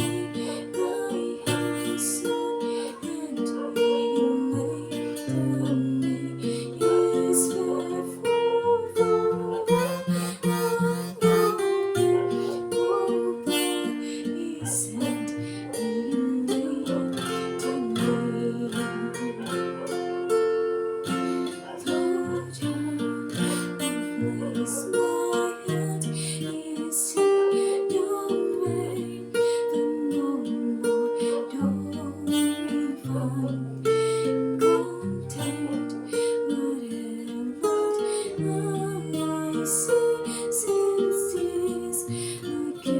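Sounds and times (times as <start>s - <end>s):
acoustic guitar music: 0.0s - 42.9s.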